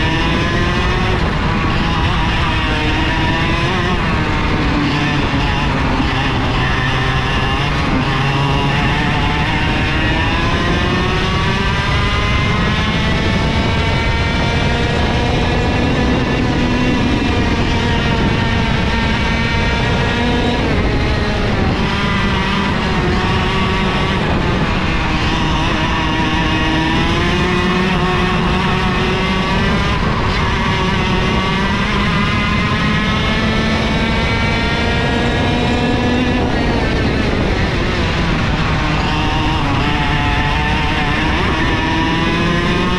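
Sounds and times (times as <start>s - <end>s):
kart engine revving: 0.0s - 42.9s.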